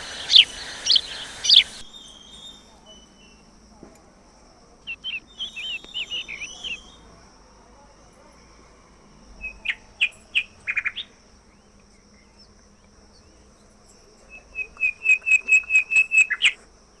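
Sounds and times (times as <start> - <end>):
songbird calling: 0.0 - 4.0, 4.6 - 7.3, 9.3 - 17.0.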